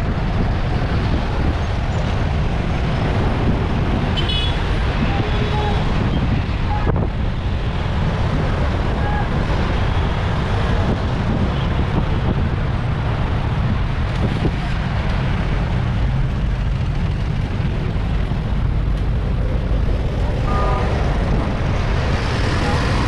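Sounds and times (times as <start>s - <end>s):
road and traffic noise: 0.0s - 23.0s
wind buffeting microphone: 0.0s - 23.0s.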